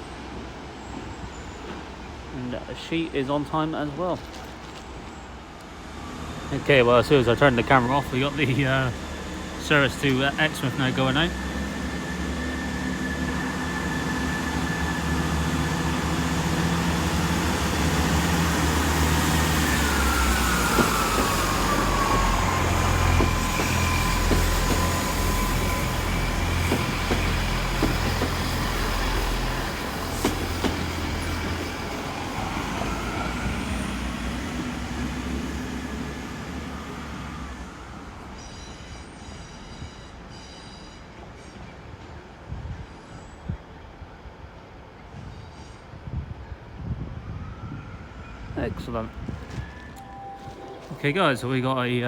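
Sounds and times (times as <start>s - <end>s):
diesel train engine with whine: 0.0s - 52.0s.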